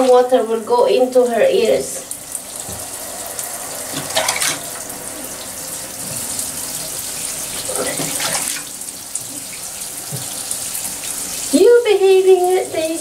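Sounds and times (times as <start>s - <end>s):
running water hiss: 0.0s - 13.0s
water splashing and trickling: 0.0s - 13.0s.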